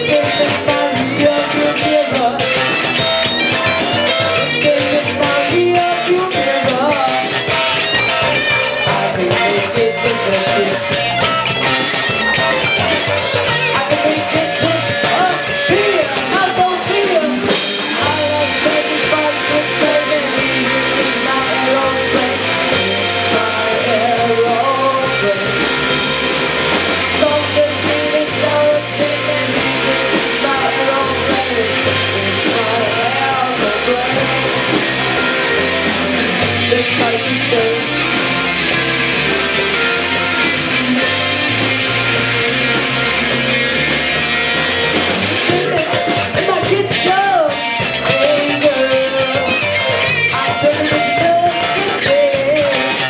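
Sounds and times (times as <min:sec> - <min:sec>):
person singing: 0:00.0 - 0:11.3, 0:12.4 - 0:53.0
live rock band playing: 0:00.0 - 0:53.0.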